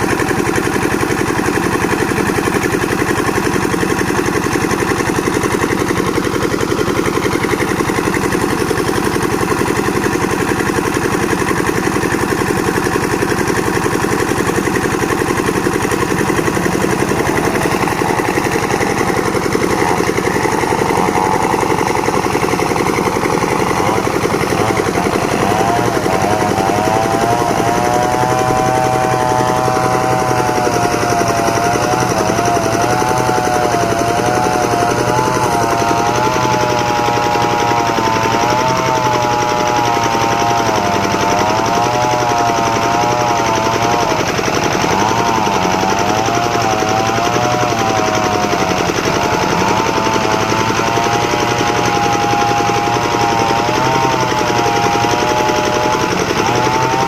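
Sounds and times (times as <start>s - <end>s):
sawmill machine knocking: 0.0s - 57.0s.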